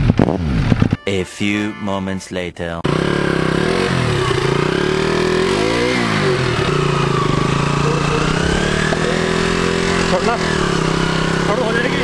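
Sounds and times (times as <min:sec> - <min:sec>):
motorcycle engine idling and revving: 0:00.0 - 0:01.0, 0:02.8 - 0:12.0.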